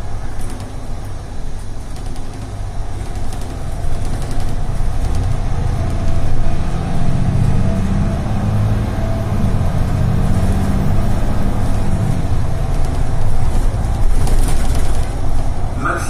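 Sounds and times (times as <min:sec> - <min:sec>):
bus engine droning low: 0:00.0 - 0:16.0
road noise: 0:00.0 - 0:16.0.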